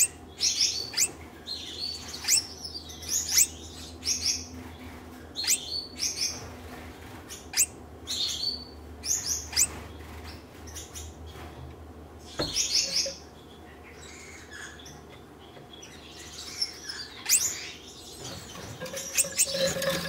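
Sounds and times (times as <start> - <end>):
finches chirping: 0.0 - 4.5, 5.4 - 6.4, 7.3 - 11.2, 12.3 - 20.0.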